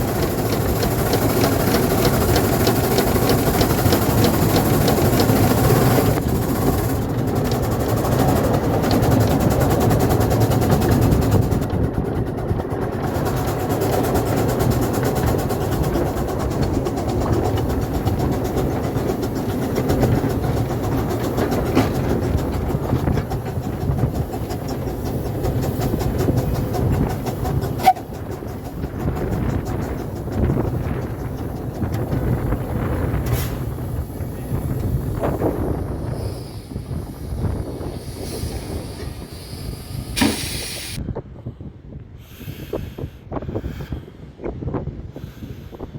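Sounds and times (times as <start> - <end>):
wheels clicking on track: 0.0 - 41.0
train rumble: 0.0 - 45.9.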